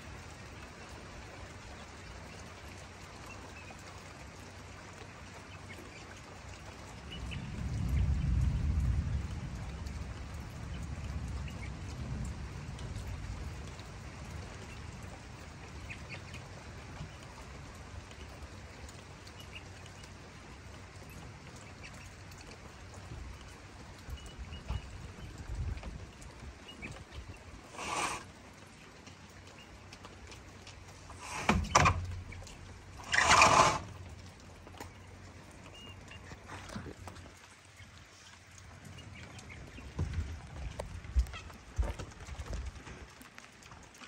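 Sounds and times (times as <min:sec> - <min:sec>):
light rain patter: 0:00.0 - 0:44.0.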